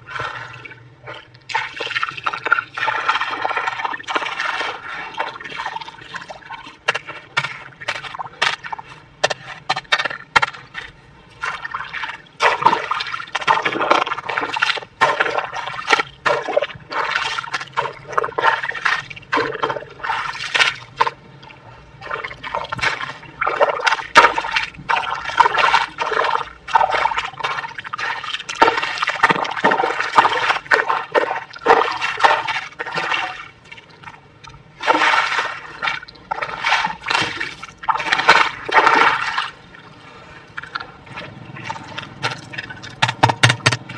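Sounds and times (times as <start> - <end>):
wet mud stirred with stick: 0.0 - 39.6.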